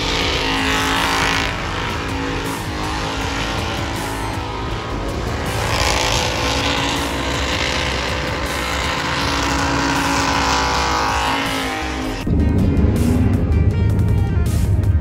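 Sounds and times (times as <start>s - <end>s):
tyres screeching: 0.0s - 12.3s
car engine at high revs: 0.0s - 14.9s.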